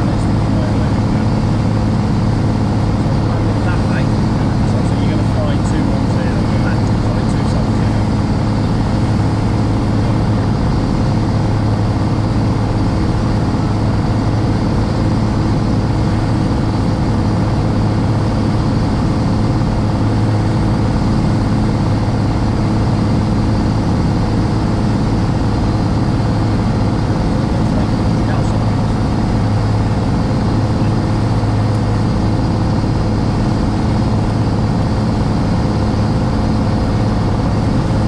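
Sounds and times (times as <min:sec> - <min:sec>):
aircraft piston engine and propeller: 0:00.0 - 0:38.0.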